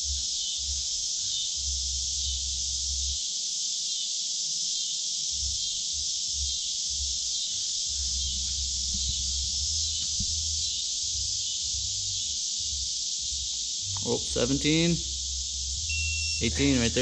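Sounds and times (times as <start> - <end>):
low bass thumping: 0.0 - 1.0, 1.6 - 3.2, 5.4 - 17.0
insect chorus buzzing: 0.0 - 17.0.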